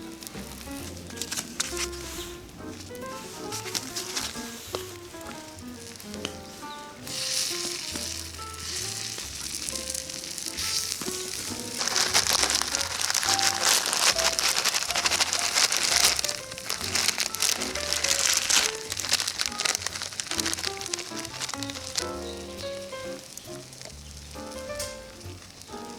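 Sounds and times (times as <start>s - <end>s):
batter sizzling in a pan: 0.0s - 25.9s.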